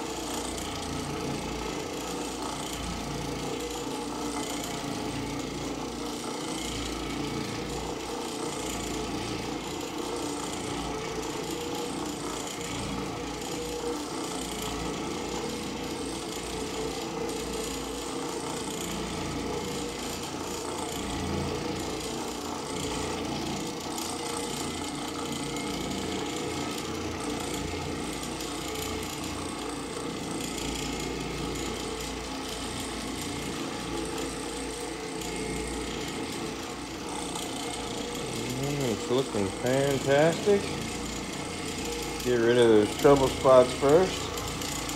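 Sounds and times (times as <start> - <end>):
floor machine scrubbing carpet: 0.0 - 44.9.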